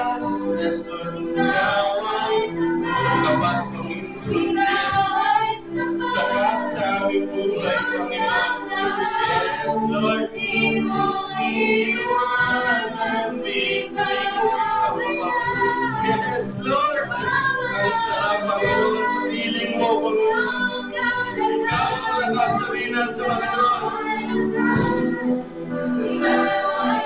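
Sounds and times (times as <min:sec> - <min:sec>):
group singing together: 0:00.0 - 0:27.0.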